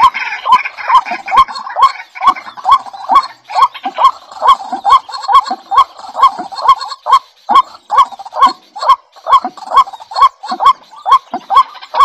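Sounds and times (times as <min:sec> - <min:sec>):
waterhen calling: 0:00.0 - 0:12.0.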